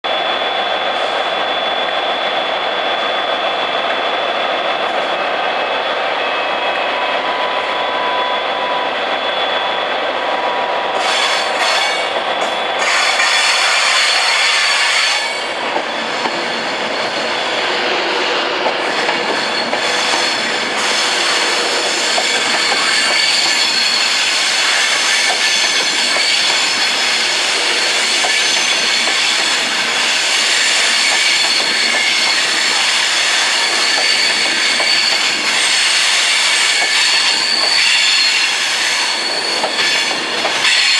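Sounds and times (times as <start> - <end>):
electric train rolling: 0.1 - 40.9
train wheels squealing: 0.1 - 40.9.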